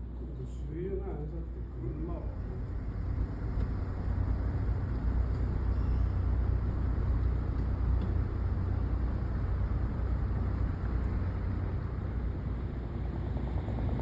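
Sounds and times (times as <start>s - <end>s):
low vehicle rumble: 1.4s - 14.0s.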